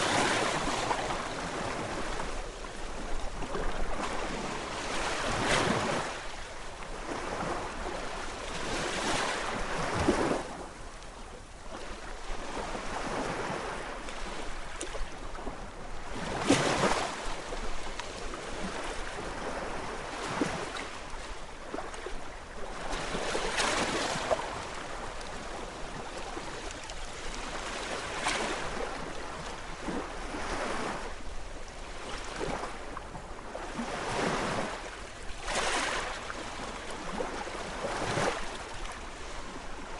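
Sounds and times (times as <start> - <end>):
gentle sea waves washing in: 0.0 - 39.9.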